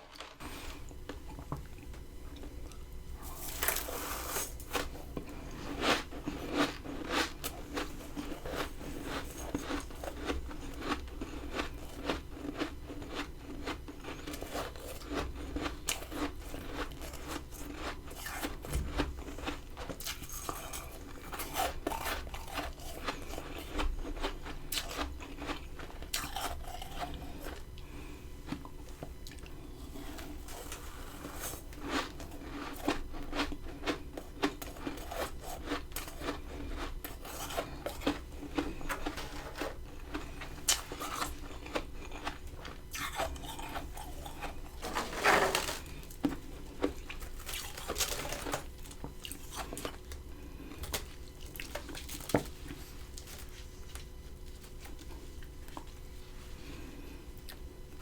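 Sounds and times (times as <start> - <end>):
chewing and crunching frost: 0.0 - 58.0.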